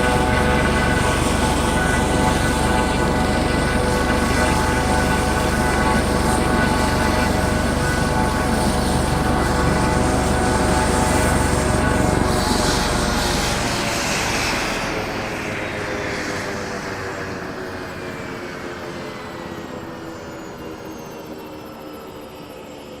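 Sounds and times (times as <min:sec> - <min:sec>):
helicopter flying away: 0:00.0 - 0:23.0.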